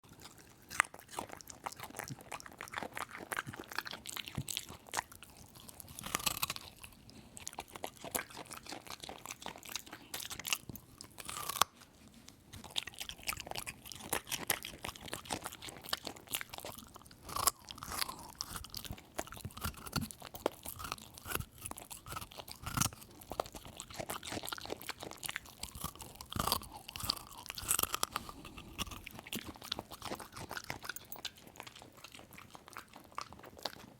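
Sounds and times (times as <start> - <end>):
dog crunching a carrot: 0.0 - 33.9.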